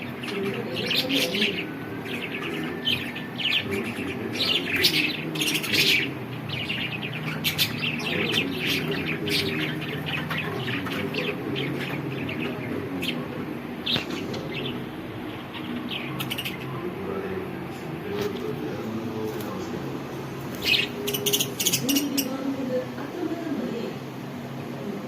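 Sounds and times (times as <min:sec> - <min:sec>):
lovebirds chirping: 0:00.0 - 0:24.0
steady low hum: 0:00.0 - 0:25.0.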